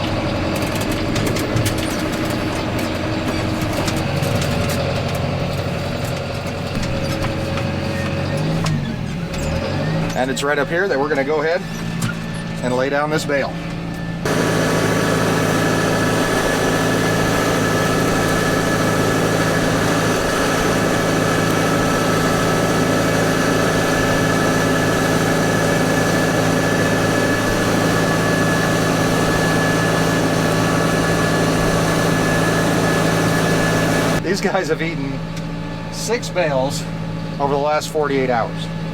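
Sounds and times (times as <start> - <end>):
farm vehicle engine running: 0.0 - 38.9.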